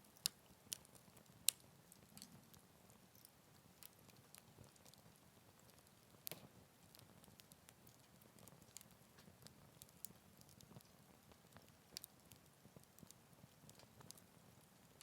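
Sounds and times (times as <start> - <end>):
campfire crackling faintly: 0.0 - 15.0.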